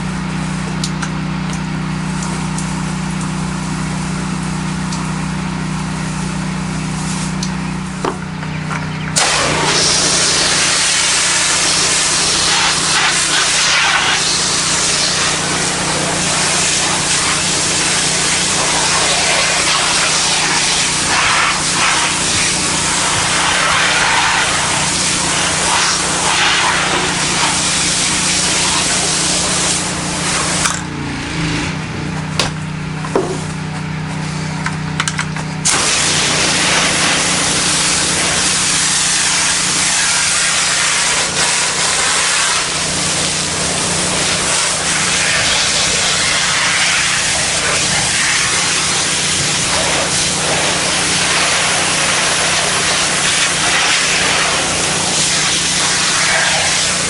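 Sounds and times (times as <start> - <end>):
pressure washer water spray hiss: 0.0 - 8.0, 9.2 - 31.9, 35.6 - 57.0
pressure washer engine hum: 0.0 - 57.0.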